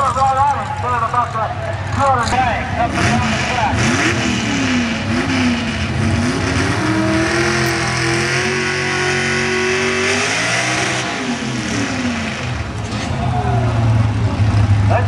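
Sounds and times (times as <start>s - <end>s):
truck engine revving: 2.0s - 15.0s.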